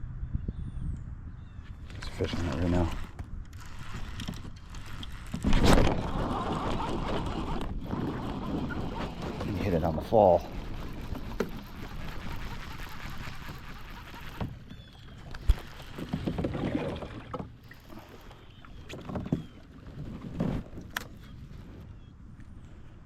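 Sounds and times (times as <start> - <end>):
water splashing against kayak: 1.9 - 21.8.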